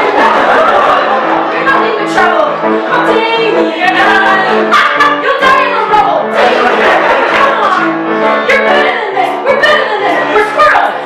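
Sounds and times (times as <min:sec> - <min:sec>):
piano accompaniment: 0:00.0 - 0:11.0
voices singing: 0:00.0 - 0:11.0.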